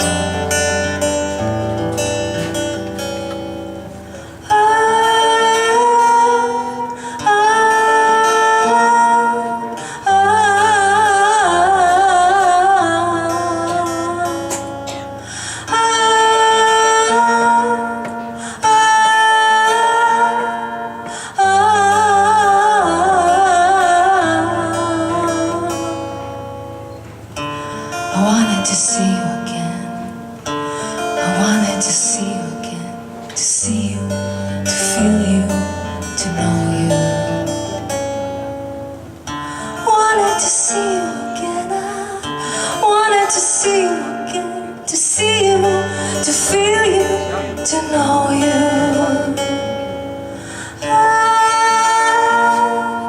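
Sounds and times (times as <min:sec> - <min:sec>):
long-held melody with vibrato: 0:00.0 - 0:53.0
strummed acoustic guitar chords: 0:00.0 - 0:53.0.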